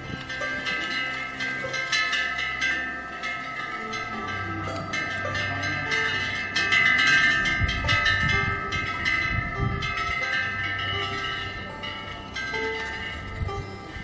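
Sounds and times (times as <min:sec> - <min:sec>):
wind rumbling on microphone: 0:00.0 - 0:02.0, 0:04.4 - 0:14.0
wind bells ringing: 0:00.0 - 0:14.0.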